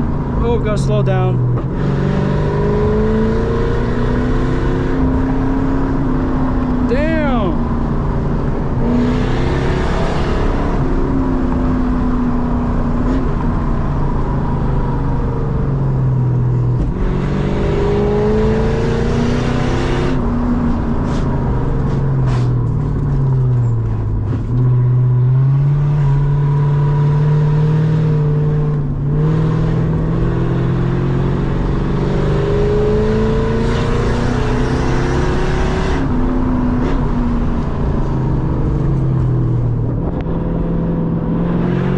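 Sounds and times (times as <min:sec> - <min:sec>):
car engine revving through loud exhaust: 0:00.0 - 0:41.9.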